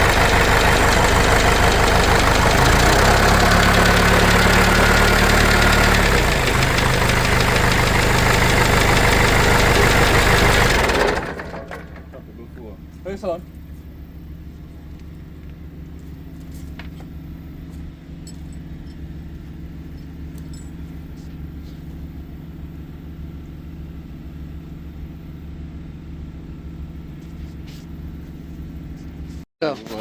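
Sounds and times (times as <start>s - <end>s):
diesel engine idling: 0.0s - 29.2s.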